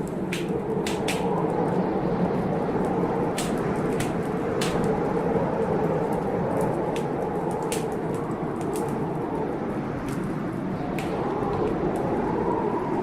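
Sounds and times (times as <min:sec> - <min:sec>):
blizzard wind howling: 0:00.0 - 0:13.0
wood fire crackling: 0:00.0 - 0:13.0.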